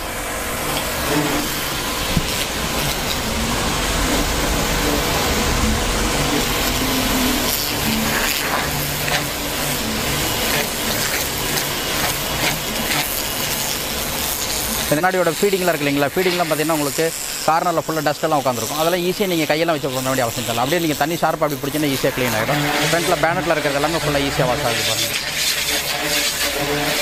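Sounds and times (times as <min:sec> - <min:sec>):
pressure washer spraying water: 0:00.0 - 0:27.0.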